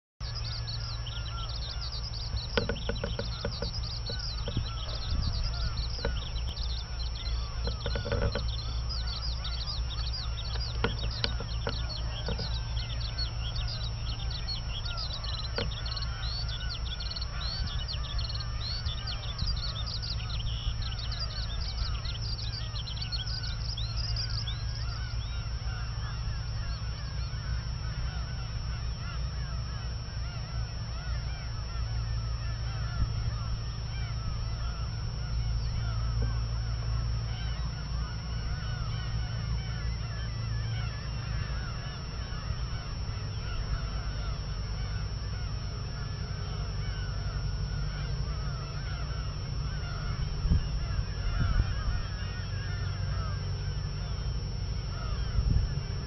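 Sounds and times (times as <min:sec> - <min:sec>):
skylark singing: 0:00.2 - 0:56.0
steady low hum: 0:00.2 - 0:56.0.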